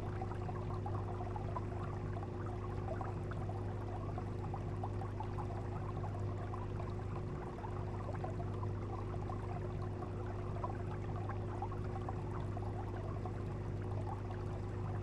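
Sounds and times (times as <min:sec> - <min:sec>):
aquarium water trickling: 0:00.0 - 0:15.0.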